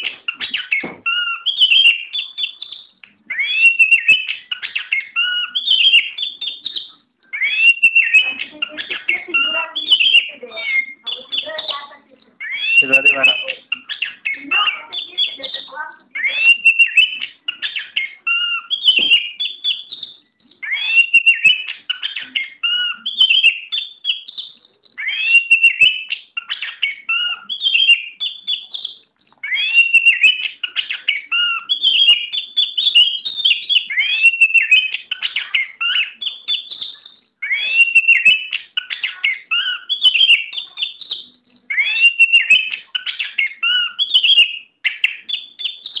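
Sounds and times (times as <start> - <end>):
bird singing whistles and chatter: 0.0 - 46.0.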